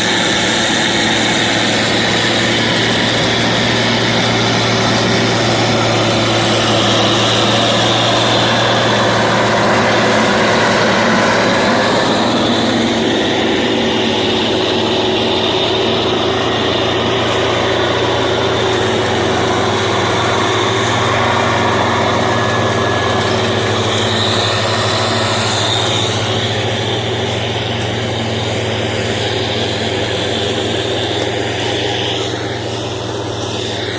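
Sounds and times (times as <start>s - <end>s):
diesel engine under load: 0.0s - 33.9s.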